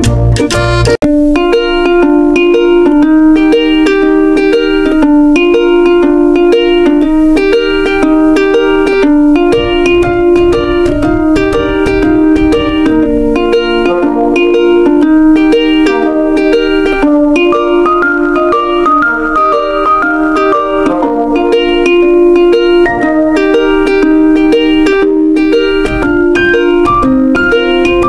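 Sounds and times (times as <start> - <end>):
plucked string tune: 0.0 - 28.0.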